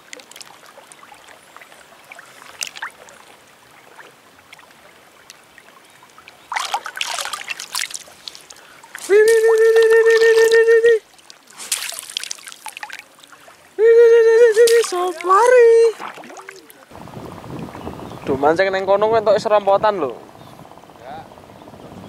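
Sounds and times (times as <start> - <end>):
water trickling and lapping: 0.0 - 18.4.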